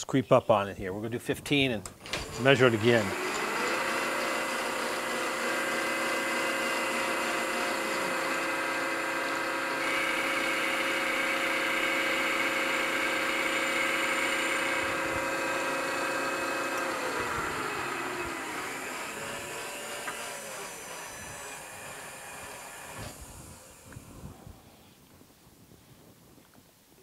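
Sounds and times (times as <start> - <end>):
end mill cutting metal: 1.9 - 24.1
milling machine running: 2.0 - 24.1.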